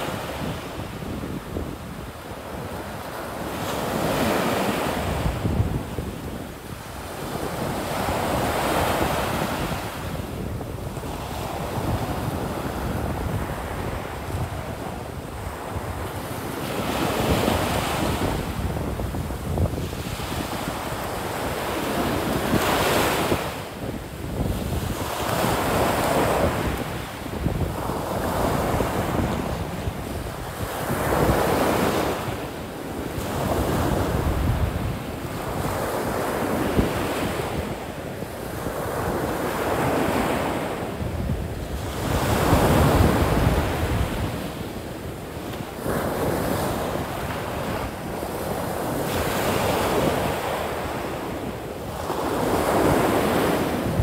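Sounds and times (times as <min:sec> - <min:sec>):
waves breaking on beach: 0:00.0 - 0:54.0
wind on microphone: 0:00.0 - 0:54.0.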